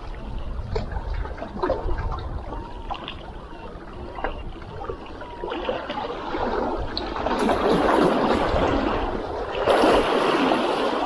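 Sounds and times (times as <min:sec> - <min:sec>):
small waves lapping at shore: 0:00.0 - 0:11.0
wind rumble on microphone: 0:00.0 - 0:11.0.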